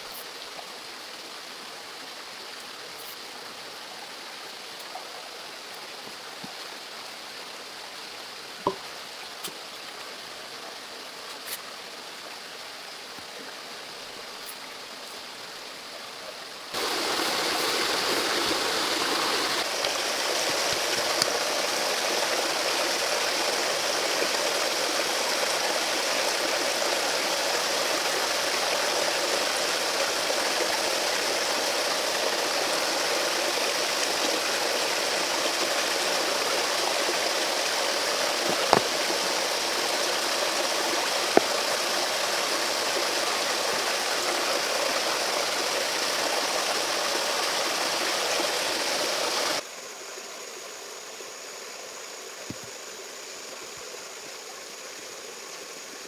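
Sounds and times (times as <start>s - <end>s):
stream water rushing: 0.0s - 49.6s.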